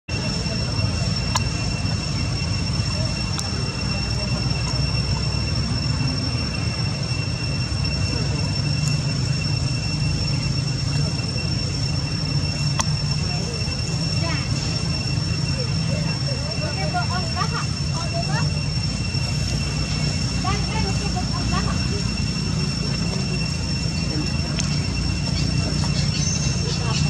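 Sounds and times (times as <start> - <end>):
constant low rumble: 0.1 - 27.0
high-pitched whine: 0.1 - 27.0.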